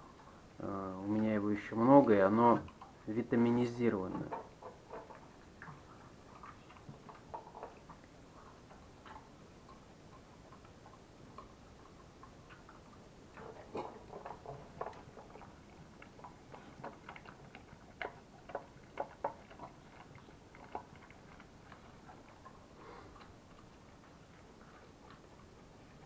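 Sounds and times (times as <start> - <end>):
dog licking and chewing food: 0.0 - 26.0.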